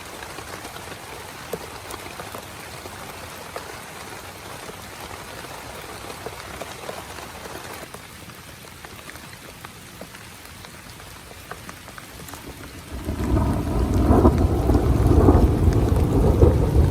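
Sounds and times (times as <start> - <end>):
rain on a tent: 0.0 - 16.9.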